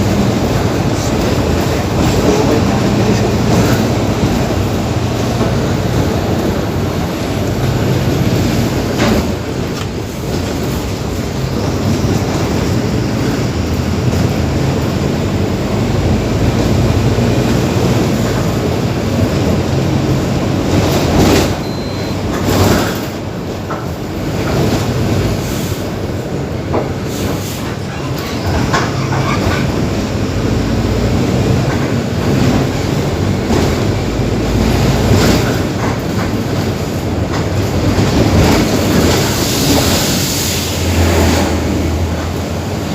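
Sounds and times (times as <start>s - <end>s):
bus body knocks and rattles: 0.0s - 42.9s
bus diesel engine droning: 0.0s - 42.9s.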